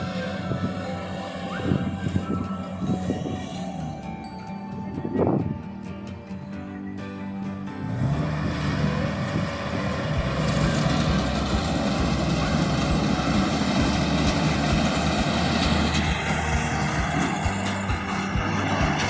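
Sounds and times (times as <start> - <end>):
combine harvester engine droning: 0.0 - 19.0.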